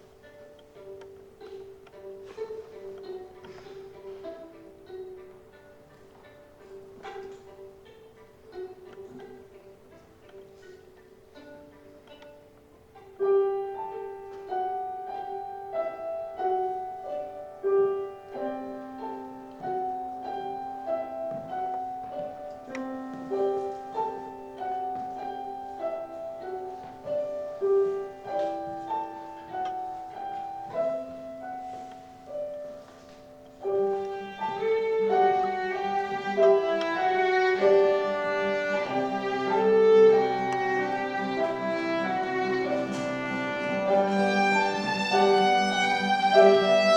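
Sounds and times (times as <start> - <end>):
piano accompaniment: 0.0 - 46.9
violin melody: 0.0 - 46.9.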